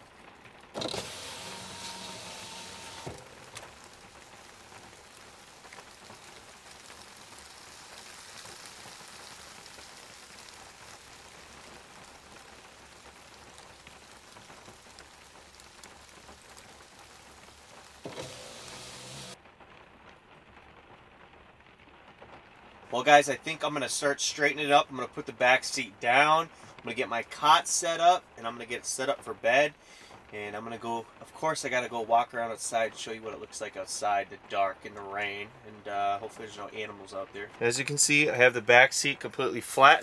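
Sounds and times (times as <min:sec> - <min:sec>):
heavy rain on vehicle roof: 0:00.0 - 0:40.0.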